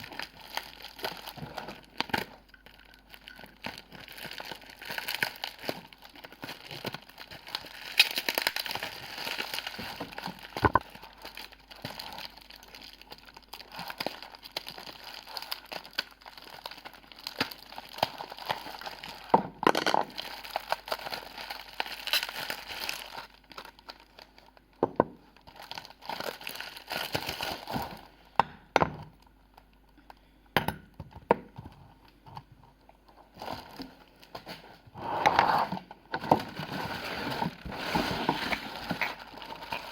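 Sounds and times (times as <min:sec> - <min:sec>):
packaging crinkling and tearing: 0:00.0 - 0:28.2, 0:33.2 - 0:34.9, 0:35.6 - 0:39.9.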